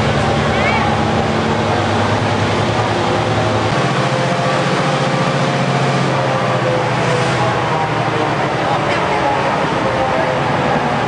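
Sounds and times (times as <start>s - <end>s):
large engine humming: 0.0s - 11.0s.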